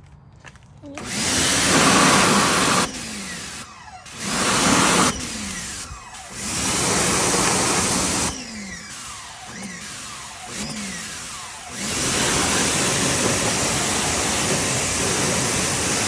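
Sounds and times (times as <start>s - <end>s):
pressure washer spraying water: 1.0s - 16.0s.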